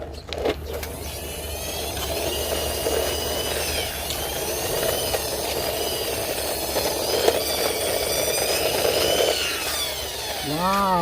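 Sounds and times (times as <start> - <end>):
toy helicopter whirring: 0.0 - 11.0.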